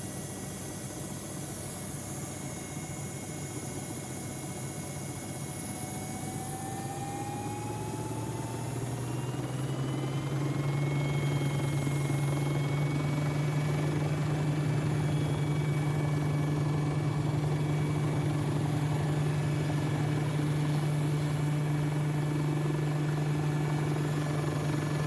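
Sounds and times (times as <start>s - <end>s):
helicopter drone: 0.0s - 25.0s.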